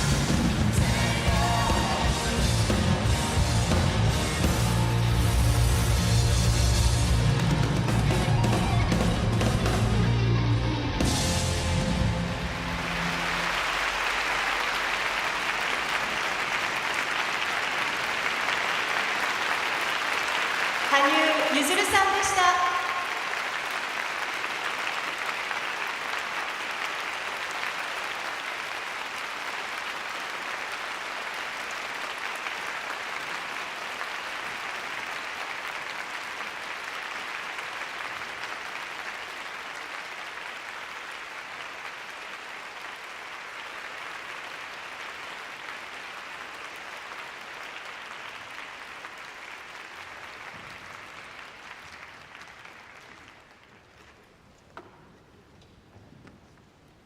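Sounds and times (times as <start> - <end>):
audience applauding: 0.0 - 54.6.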